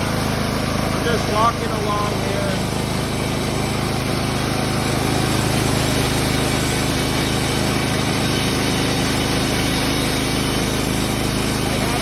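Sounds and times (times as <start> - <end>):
bandsaw mill cutting log: 0.0 - 12.0.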